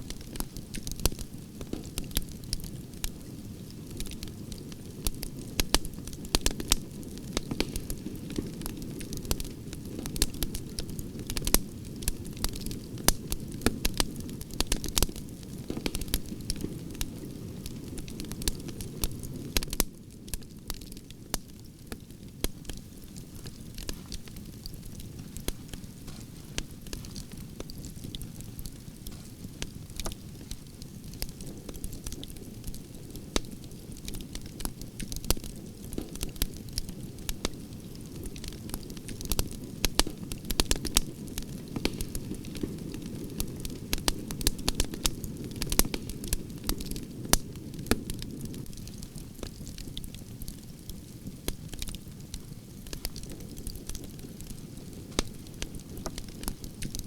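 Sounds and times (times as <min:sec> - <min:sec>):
low rumble of flame: 0:00.0 - 0:57.0
wood fire crackling and popping: 0:00.0 - 0:57.0.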